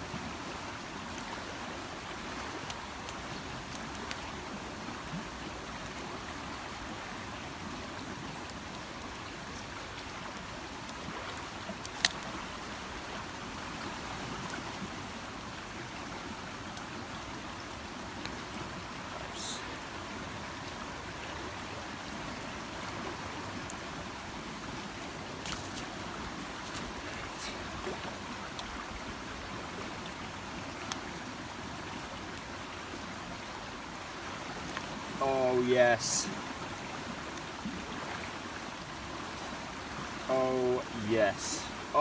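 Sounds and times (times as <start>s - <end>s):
river rushing in flood: 0.0s - 42.0s.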